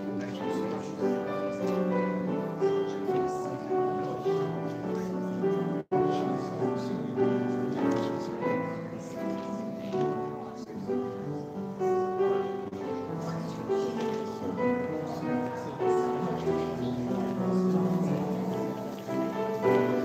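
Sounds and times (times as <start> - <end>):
grand piano melody: 0.0 - 20.0.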